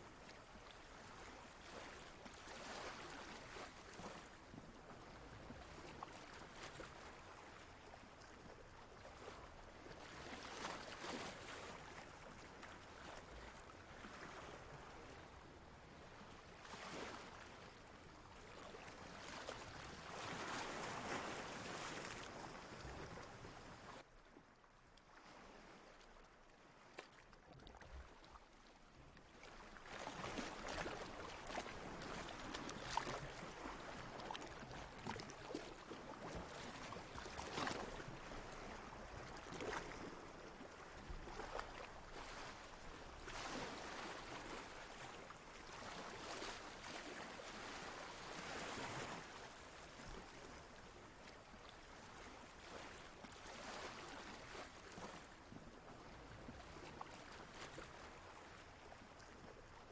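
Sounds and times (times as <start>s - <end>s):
ocean water lapping: 0.0s - 59.9s.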